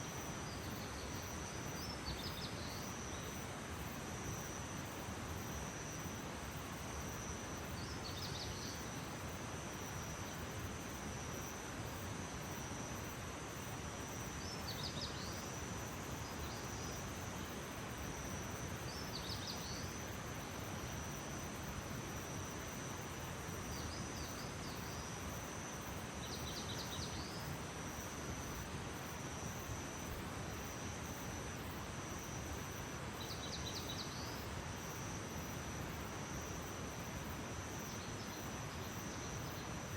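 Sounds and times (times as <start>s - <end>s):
background hiss: 0.0s - 39.9s
insect trill: 0.0s - 39.9s.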